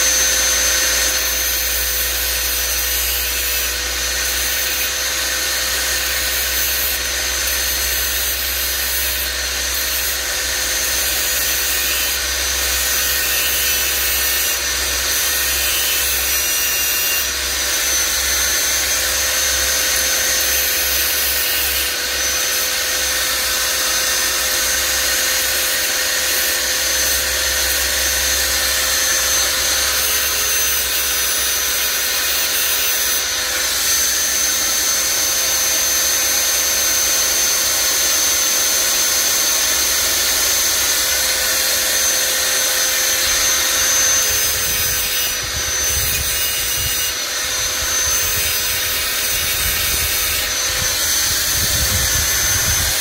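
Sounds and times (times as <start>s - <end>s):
mini grinder whining: 0.0s - 53.0s.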